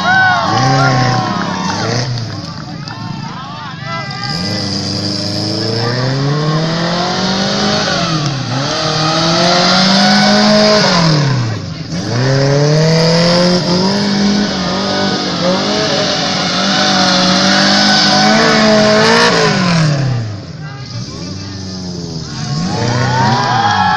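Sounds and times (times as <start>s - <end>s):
exhaust spitting: 0.2s - 23.9s
car engine revving hard: 0.4s - 2.6s, 4.2s - 23.9s.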